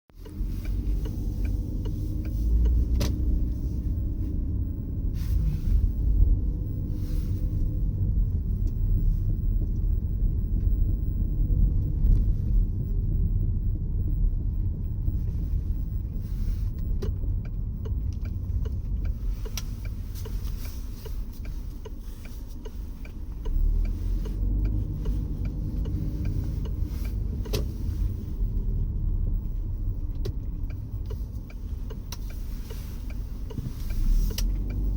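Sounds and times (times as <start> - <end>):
low road rumble: 0.0 - 34.9.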